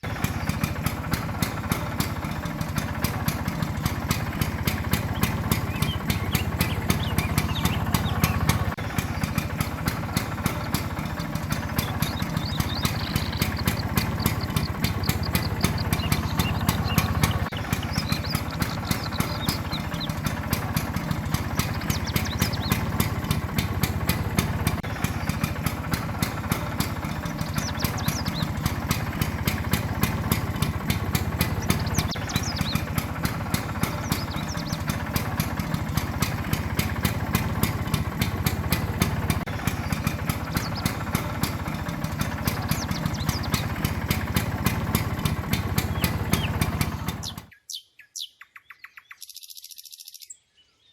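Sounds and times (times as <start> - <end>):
scooter engine idling: 0.0 - 47.6.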